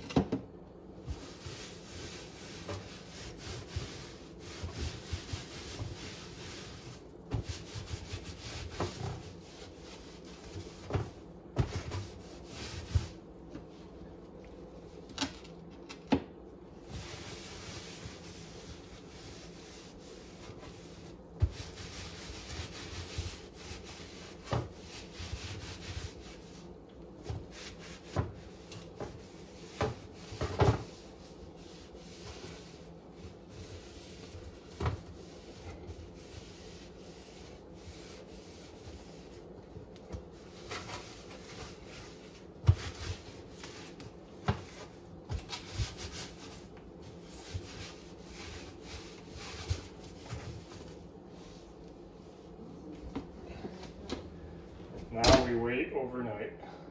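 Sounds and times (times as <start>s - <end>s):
hand smearing paste in oven: 0.4s - 52.6s
soft scraping on oven walls: 0.9s - 15.6s, 16.4s - 56.8s.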